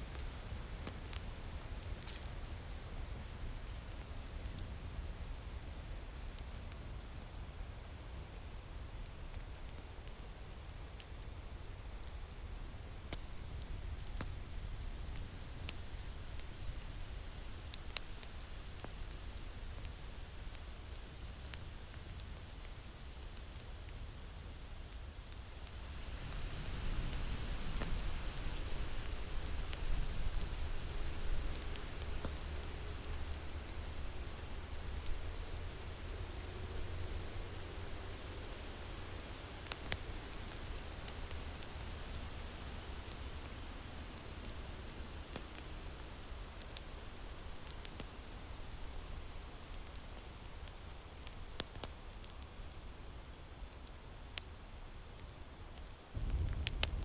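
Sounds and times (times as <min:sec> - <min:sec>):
wind with low rumble: 0:00.0 - 0:57.0
wood fire crackling: 0:00.0 - 0:57.0.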